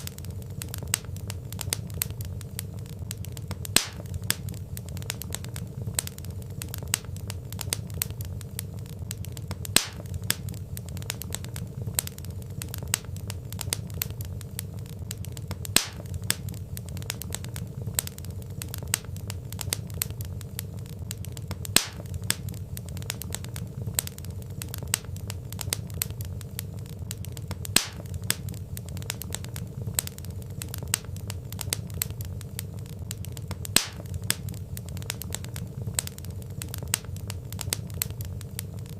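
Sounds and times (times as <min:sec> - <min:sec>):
sharp pops from fire: 0:00.0 - 0:38.9
wood fire crackling: 0:00.0 - 0:38.9.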